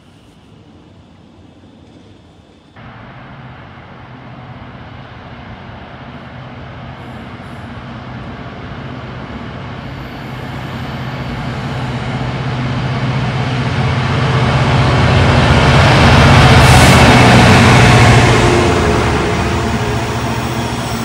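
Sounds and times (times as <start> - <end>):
diesel locomotive engine droning: 0.0 - 21.0
freight train passing: 0.0 - 21.0.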